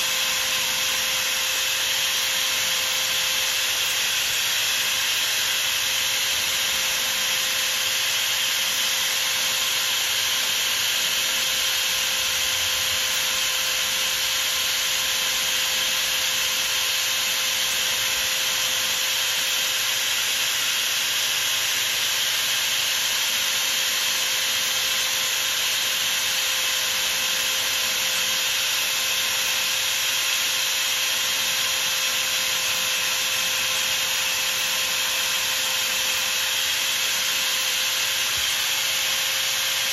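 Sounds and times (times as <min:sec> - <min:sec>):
lathe motor whine: 0:00.0 - 0:39.9.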